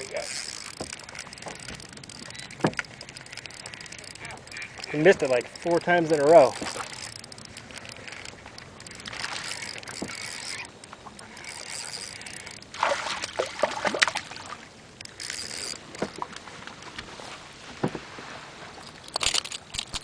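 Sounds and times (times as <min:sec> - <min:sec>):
water splashing against a boat: 0:00.0 - 0:20.0.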